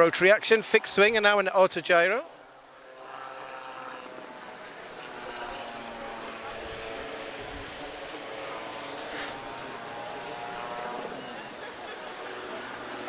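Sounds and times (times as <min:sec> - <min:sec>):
aircraft engine drone: 0:02.2 - 0:13.0.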